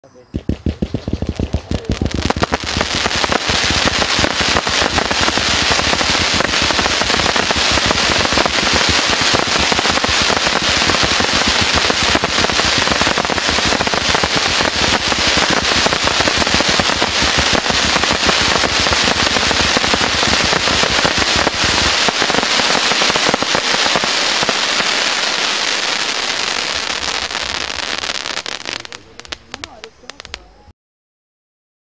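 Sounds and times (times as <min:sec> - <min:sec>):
fireworks thumps: 0:00.2 - 0:30.4
fireworks firing with crackling: 0:00.2 - 0:30.6.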